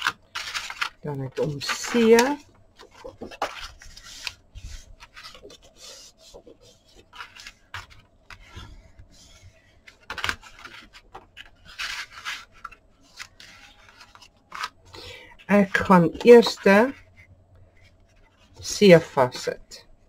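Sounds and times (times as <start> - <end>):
cardstock rustling and scraping: 0.0 - 19.6.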